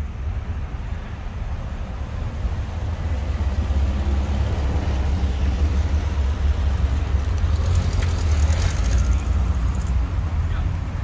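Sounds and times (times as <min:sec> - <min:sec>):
van engine rumble approaching: 0:00.0 - 0:11.0.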